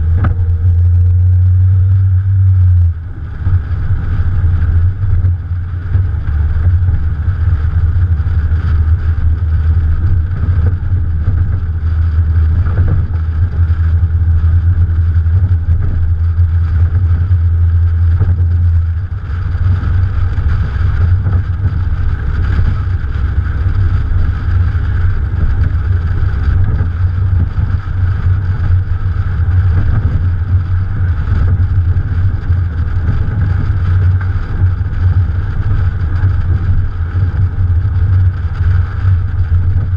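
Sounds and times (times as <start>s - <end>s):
car engine drone: 0.0s - 39.9s
road noise: 0.0s - 39.9s
wind noise: 0.0s - 39.9s.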